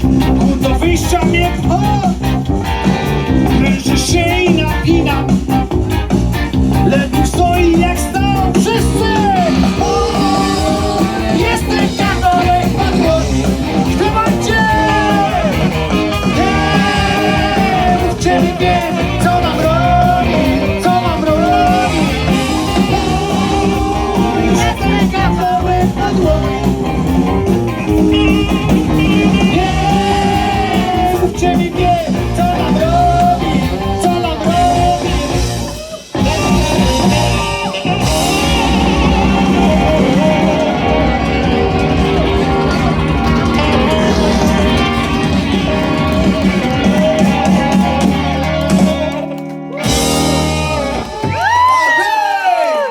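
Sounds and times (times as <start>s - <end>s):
rock band playing: 0.0s - 52.9s
person singing: 6.7s - 27.0s, 27.9s - 52.9s.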